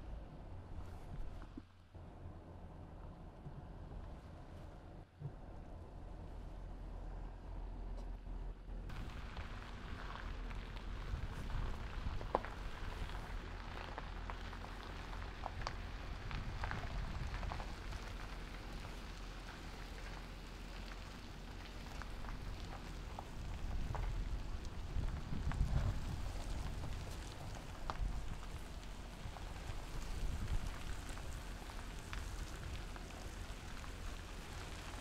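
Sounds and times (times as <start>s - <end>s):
low rumble: 0.0s - 35.0s
tires rolling over gravel: 0.0s - 35.0s.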